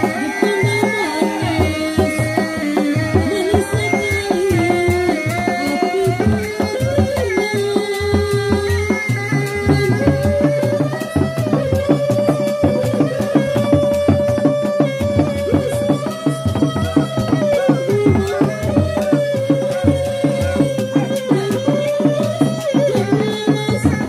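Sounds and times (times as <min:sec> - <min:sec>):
frame drums beating fast rhythm: 0:00.0 - 0:24.0.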